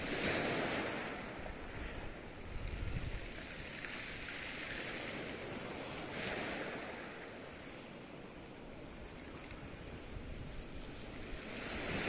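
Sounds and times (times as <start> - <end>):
sea waves washing ashore: 0.0 - 12.0
wind rumbling on microphone: 0.0 - 12.0.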